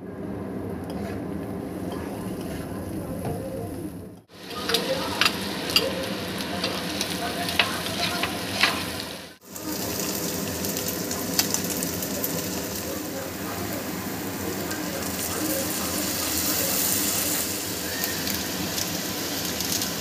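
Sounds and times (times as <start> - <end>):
stir-fry sizzling in a pan: 0.6 - 20.0.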